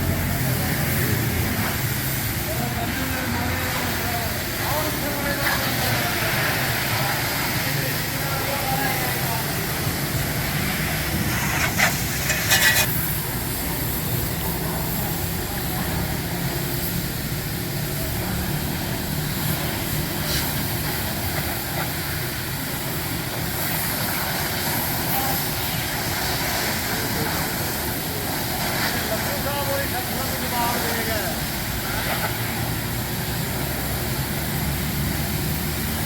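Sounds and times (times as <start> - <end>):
car wash equipment hissing: 0.0 - 36.0.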